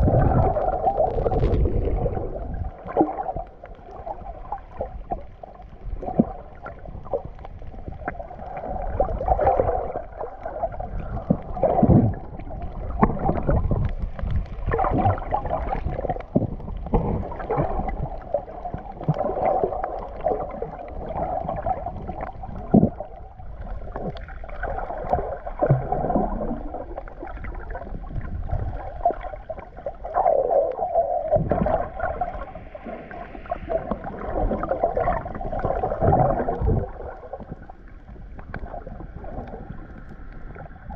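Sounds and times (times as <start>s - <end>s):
underwater sloshing and gurgling: 0.0s - 40.9s.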